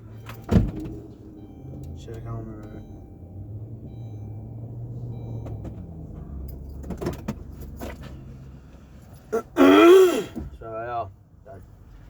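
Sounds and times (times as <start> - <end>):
motor vehicle hum: 0.0 - 12.0.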